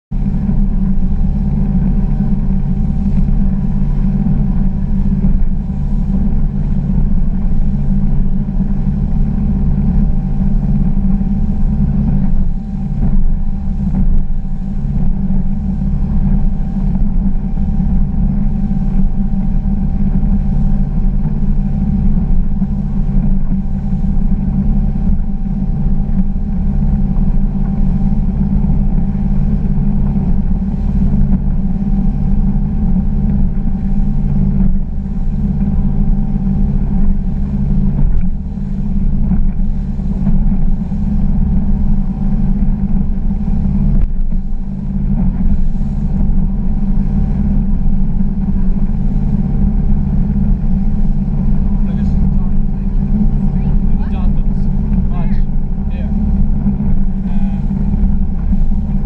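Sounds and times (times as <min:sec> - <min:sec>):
hull and water rumble: 0:00.0 - 0:59.0
boat engine droning: 0:00.1 - 0:59.0.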